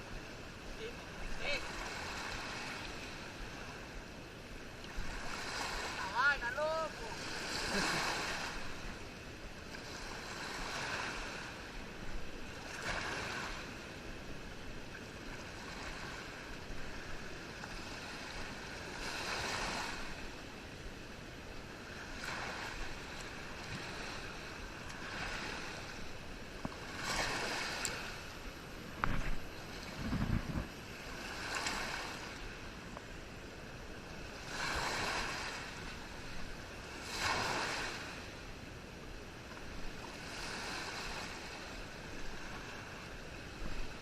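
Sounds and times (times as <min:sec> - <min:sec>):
waves washing on shore: 0:00.0 - 0:44.0.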